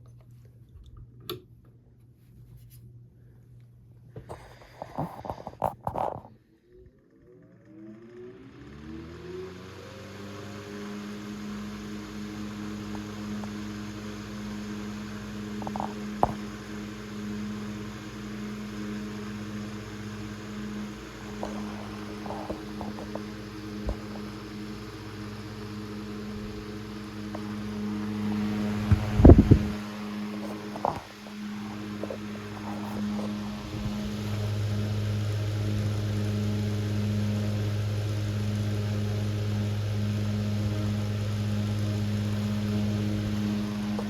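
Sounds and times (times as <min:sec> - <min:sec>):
fan motor hum: 0:02.2 - 0:44.0
air rushing from fan blades: 0:08.6 - 0:44.0.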